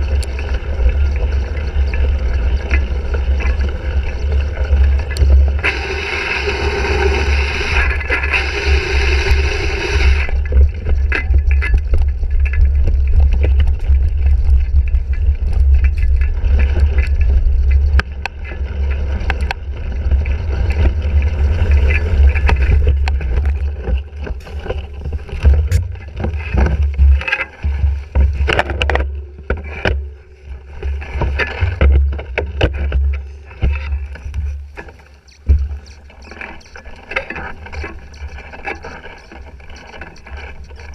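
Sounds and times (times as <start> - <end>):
wind buffeting camera: 0.0 - 37.0
bike rattles and knocks: 0.0 - 40.9
tyre scraping rough ground: 0.0 - 40.9.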